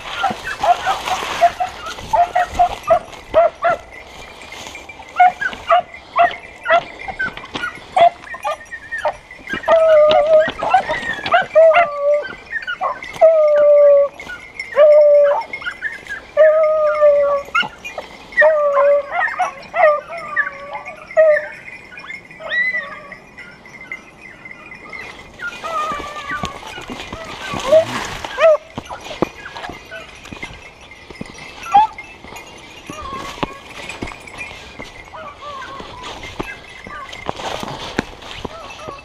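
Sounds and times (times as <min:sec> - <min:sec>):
dog baying and yelping: 0:00.0 - 0:04.0, 0:05.0 - 0:39.0.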